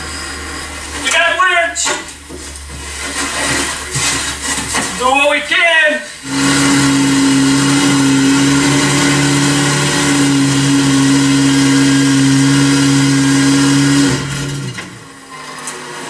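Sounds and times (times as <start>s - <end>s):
truck motor running hard: 0.0s - 5.5s, 6.1s - 16.0s.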